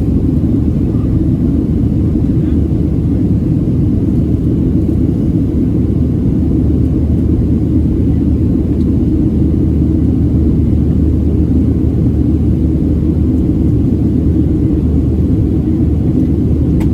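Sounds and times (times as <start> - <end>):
jet engine cabin rumble: 0.0 - 16.9.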